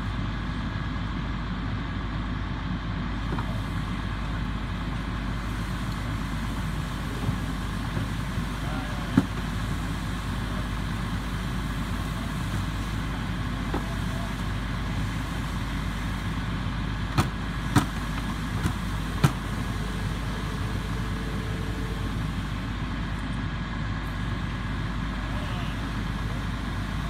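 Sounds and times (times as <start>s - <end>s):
fire engine rumbling: 0.0s - 27.0s.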